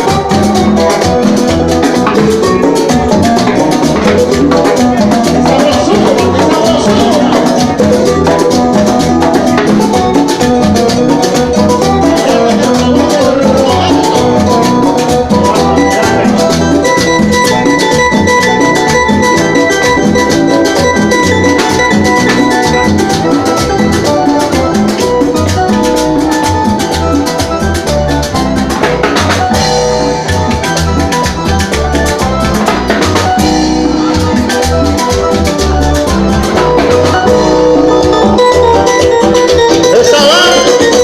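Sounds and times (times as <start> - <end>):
live latin band instrumental: 0.0 - 41.0.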